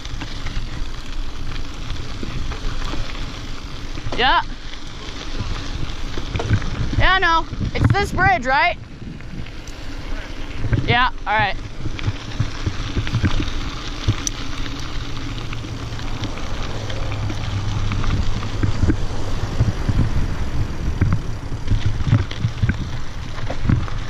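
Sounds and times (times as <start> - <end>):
bike knocks and rattles: 0.0 - 24.0
bike tyres rolling on gravel: 0.0 - 24.0
low hum: 0.0 - 24.0
tyres rolling over wooden boards: 0.0 - 24.0.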